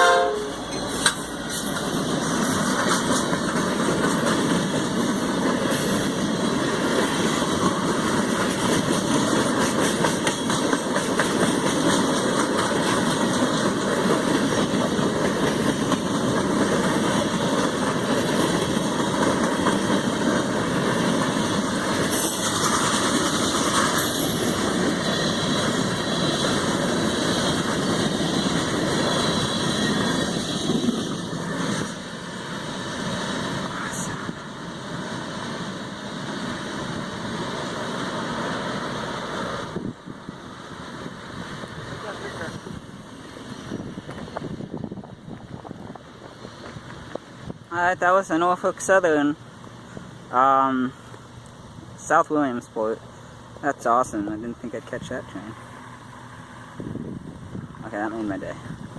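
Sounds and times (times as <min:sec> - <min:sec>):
freight train rumbling past: 0:00.0 - 0:58.9.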